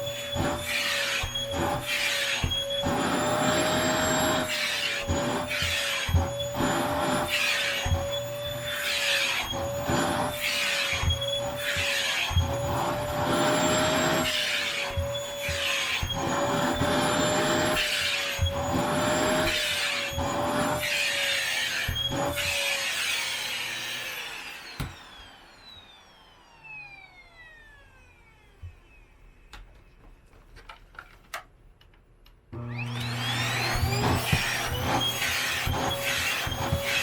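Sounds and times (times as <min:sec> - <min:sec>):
vacuum cleaner running: 0:00.0 - 0:29.6, 0:32.6 - 0:37.0.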